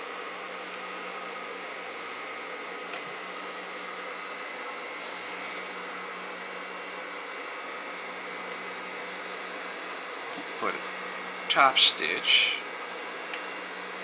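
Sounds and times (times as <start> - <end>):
sewing machine motor hum: 0.0 - 11.8.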